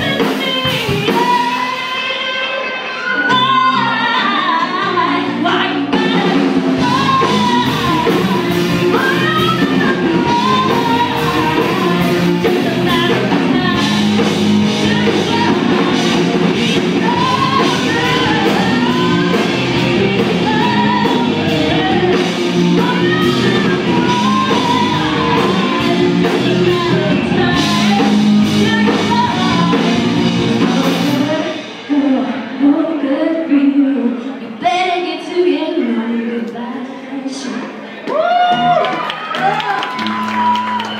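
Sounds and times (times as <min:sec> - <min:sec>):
live rock band with singing: 0:00.0 - 0:40.9.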